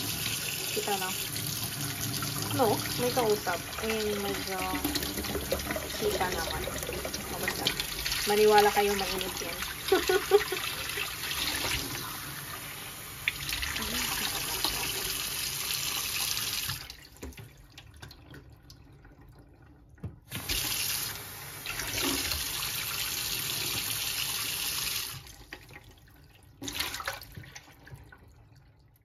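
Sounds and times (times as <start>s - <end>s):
tap water running into sink: 0.0s - 28.6s.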